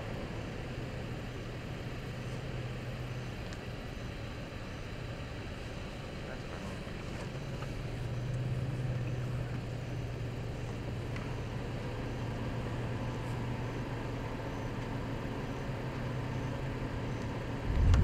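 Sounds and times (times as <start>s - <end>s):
faint outdoor noise: 0.0s - 18.0s
vehicle engine humming: 0.0s - 18.0s.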